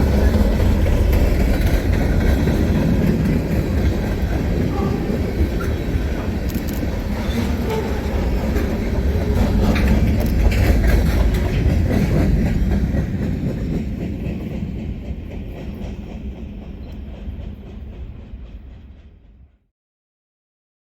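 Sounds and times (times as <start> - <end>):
freight train wheels rumbling: 0.0 - 19.6.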